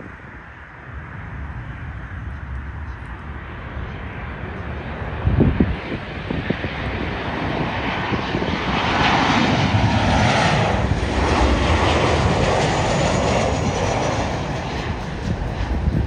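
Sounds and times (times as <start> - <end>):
jet plane passing low: 0.0 - 16.0
wind buffeting microphone: 0.0 - 16.0.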